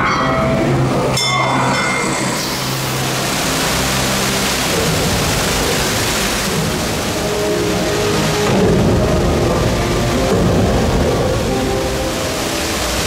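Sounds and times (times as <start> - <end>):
rush of falling water: 0.0 - 13.0.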